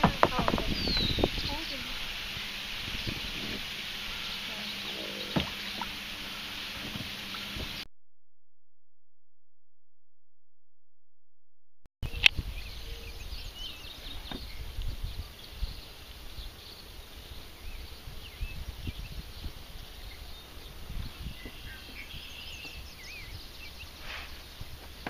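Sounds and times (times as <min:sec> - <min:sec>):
birds chirping and calling: 0:00.0 - 0:07.8, 0:12.0 - 0:25.0
wind rumble on microphone: 0:00.0 - 0:07.8, 0:12.0 - 0:25.0.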